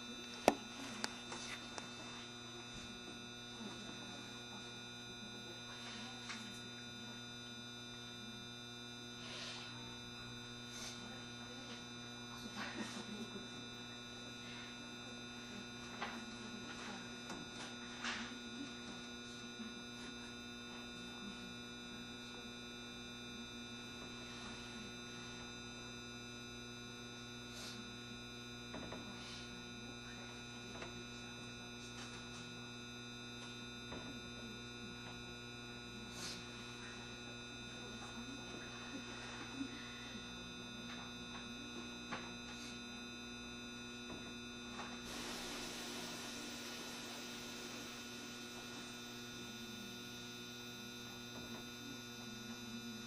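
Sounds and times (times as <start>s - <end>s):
train electrical hum: 0.0s - 53.0s.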